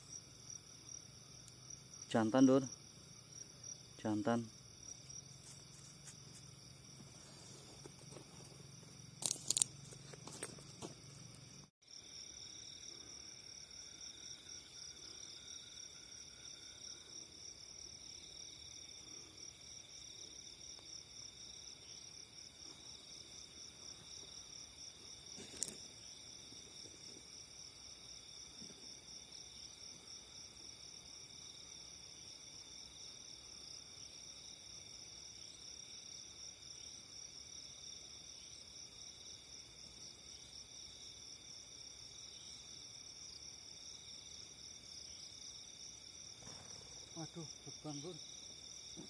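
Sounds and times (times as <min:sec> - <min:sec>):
crickets and insects trilling: 0:00.0 - 0:49.0.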